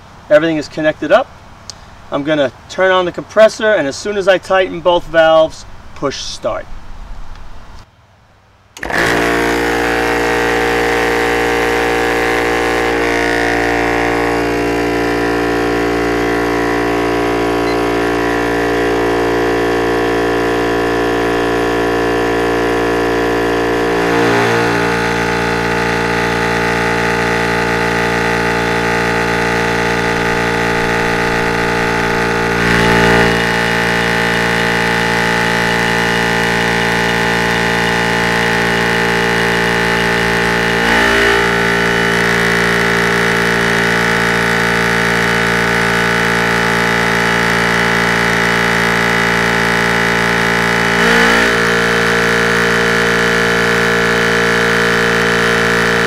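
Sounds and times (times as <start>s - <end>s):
air compressor droning: 8.8s - 56.0s.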